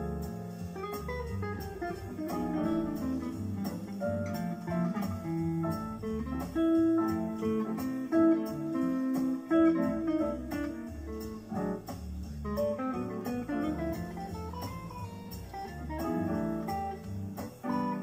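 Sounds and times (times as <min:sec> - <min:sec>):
bass: 0:00.0 - 0:18.0
drums with cymbal beat: 0:00.0 - 0:18.0
electric guitar jazz lines: 0:00.0 - 0:18.0.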